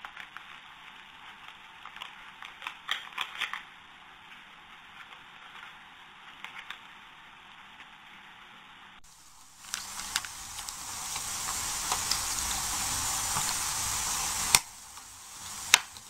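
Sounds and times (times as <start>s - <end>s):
light clicks and crackles: 0.0s - 8.4s, 9.4s - 16.0s
recording hiss: 0.0s - 16.0s.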